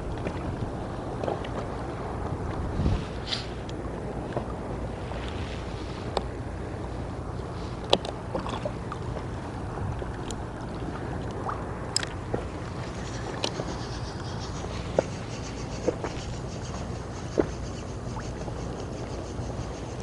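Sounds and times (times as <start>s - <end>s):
low steady hum: 0.0s - 20.0s
waves lapping against hull: 0.0s - 20.0s.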